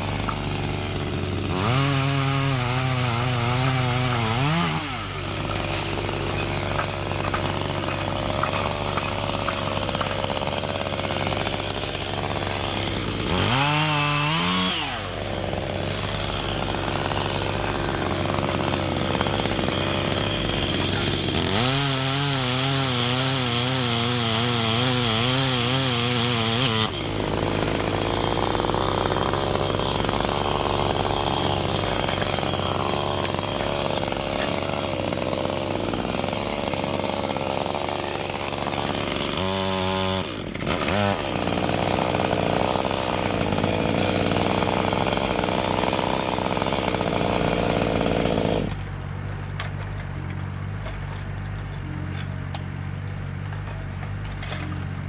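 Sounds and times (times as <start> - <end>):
electric chainsaw cutting wood: 0.0 - 49.0.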